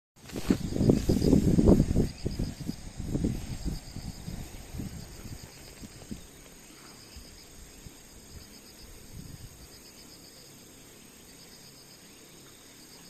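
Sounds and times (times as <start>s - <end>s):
insects chirping: 0.2s - 13.0s.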